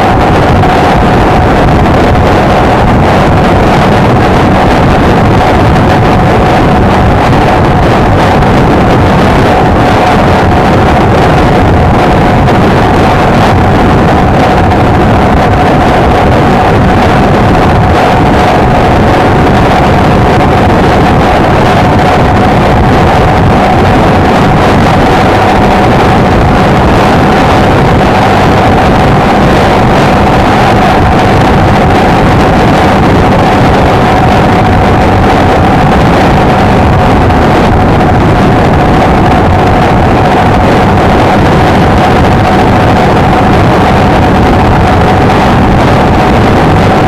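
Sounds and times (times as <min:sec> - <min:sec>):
steady whining tone: 0:00.0 - 0:47.0
wind noise on microphone: 0:00.0 - 0:47.0.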